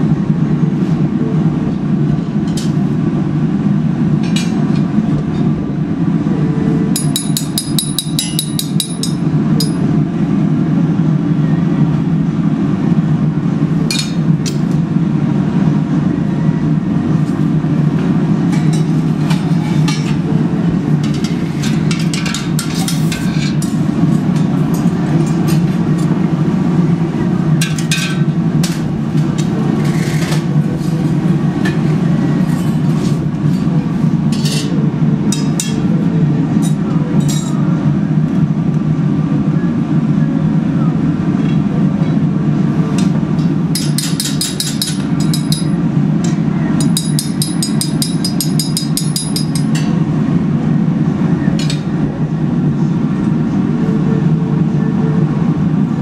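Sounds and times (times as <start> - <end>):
furnace fire roaring: 0.0 - 56.0.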